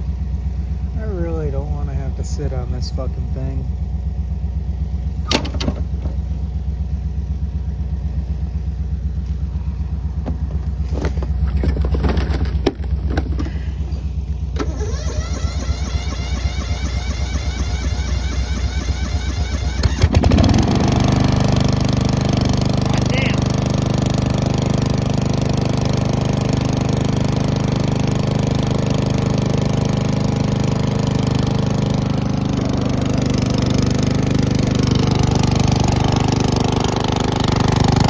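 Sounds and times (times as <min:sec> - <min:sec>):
engine knocks: 0:00.0 - 0:38.0
lawnmower engine running: 0:00.0 - 0:38.0.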